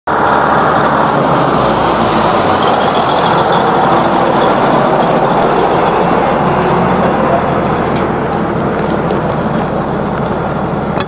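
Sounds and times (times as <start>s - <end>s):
tractor driving over: 0.1s - 11.0s.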